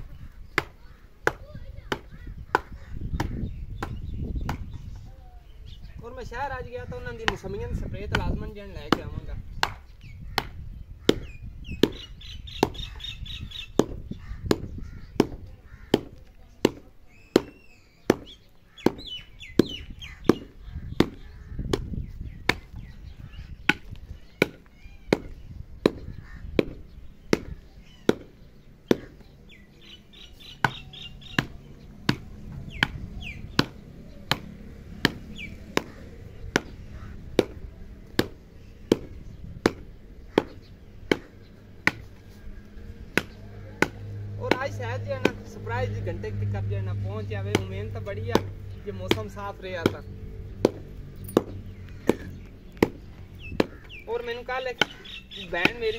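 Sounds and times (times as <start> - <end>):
wooden stick pounding clay clods: 0.5 - 4.8, 7.0 - 12.9, 13.7 - 22.8, 23.6 - 29.3, 30.5 - 42.2, 43.1 - 55.9.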